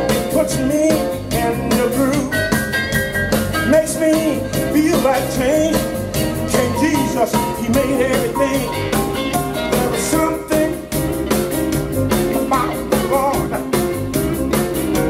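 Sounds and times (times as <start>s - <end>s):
man singing soul-blues song: 0.0s - 2.6s, 3.5s - 11.4s, 12.1s - 14.0s
band with steady drum beat: 0.0s - 15.0s.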